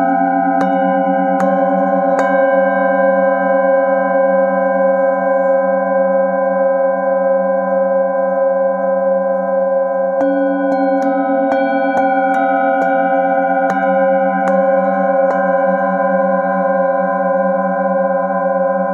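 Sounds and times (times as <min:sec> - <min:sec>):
singing bowl ringing: 0:00.0 - 0:18.9.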